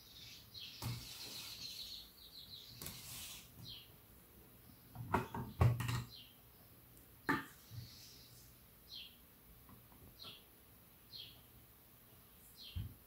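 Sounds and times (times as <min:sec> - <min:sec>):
bird chirping: 0:00.0 - 0:09.3, 0:09.9 - 0:13.0.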